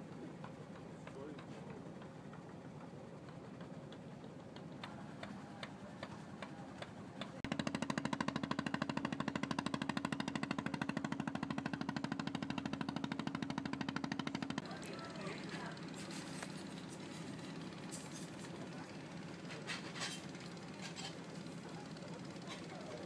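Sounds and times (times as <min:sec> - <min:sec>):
boat engine pulsing: 0:00.0 - 0:23.0.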